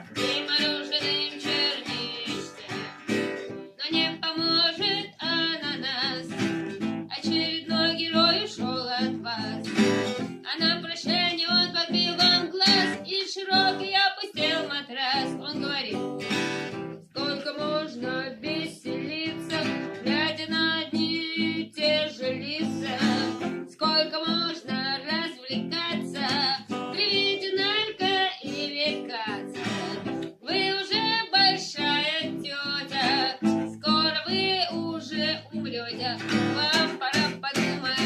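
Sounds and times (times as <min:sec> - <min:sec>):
person singing: 0:00.0 - 0:38.0
strummed acoustic guitar: 0:00.0 - 0:38.0.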